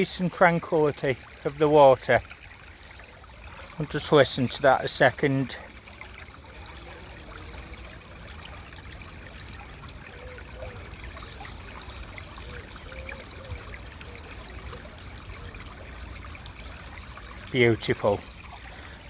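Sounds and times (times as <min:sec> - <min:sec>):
creek water babbling: 0:00.0 - 0:19.0.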